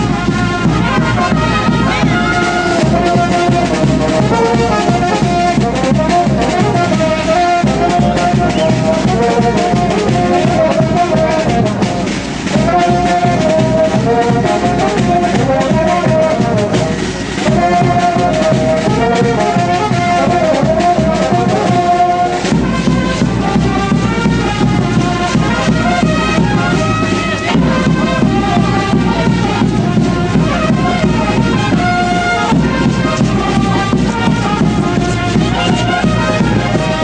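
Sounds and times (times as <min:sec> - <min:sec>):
brass melody: 0:00.0 - 0:37.0
steady drum beat: 0:00.0 - 0:37.0.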